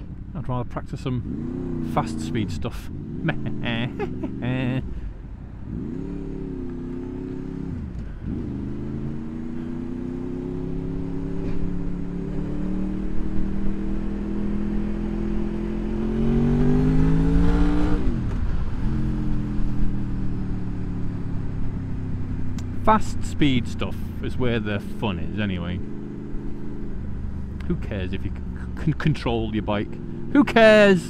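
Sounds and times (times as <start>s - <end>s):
motorcycle engine accelerating: 1.0s - 31.0s.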